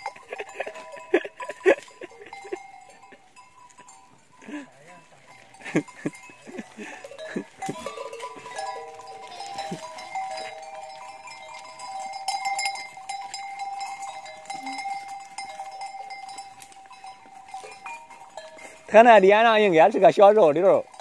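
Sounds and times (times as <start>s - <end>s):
goat neck bells clanking: 0.0s - 21.0s.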